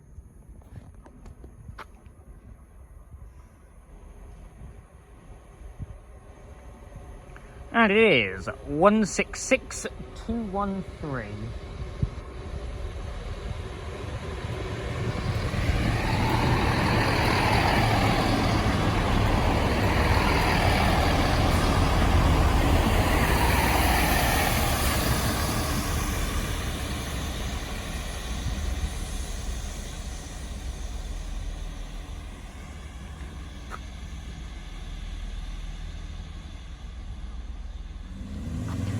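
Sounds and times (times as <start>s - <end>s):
train passing close by: 2.2s - 38.9s.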